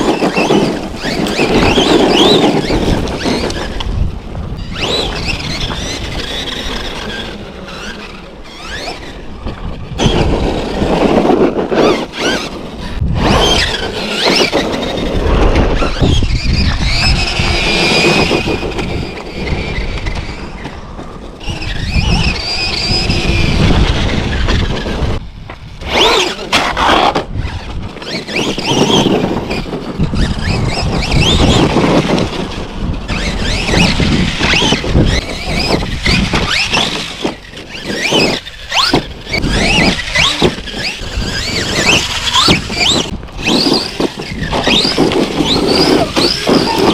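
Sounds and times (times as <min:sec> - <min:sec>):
rc truck motor whining: 0:00.0 - 0:46.9.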